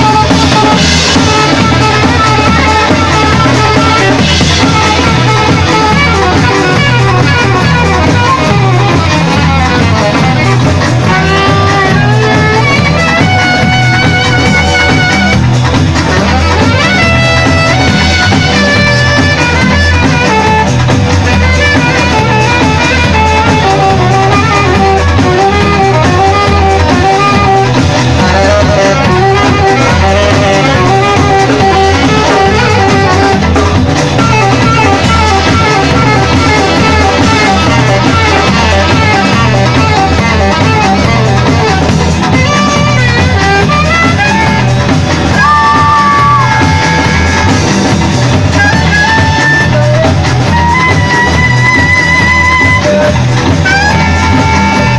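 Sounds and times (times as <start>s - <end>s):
drum kit beat: 0.0s - 54.9s
guitar: 0.0s - 54.9s.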